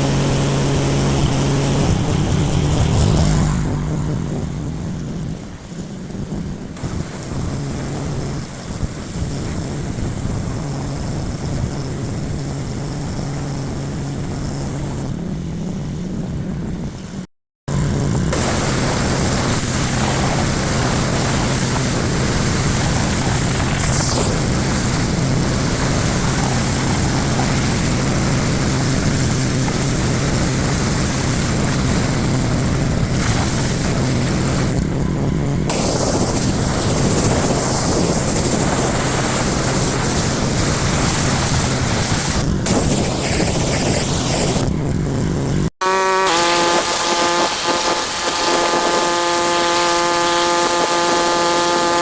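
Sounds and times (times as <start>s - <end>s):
high-pressure water jet hissing: 0.0s - 4.4s, 6.8s - 15.0s, 18.2s - 44.8s, 45.8s - 52.0s
pressure washer motor hum: 0.0s - 5.8s, 6.8s - 14.9s, 17.7s - 52.0s.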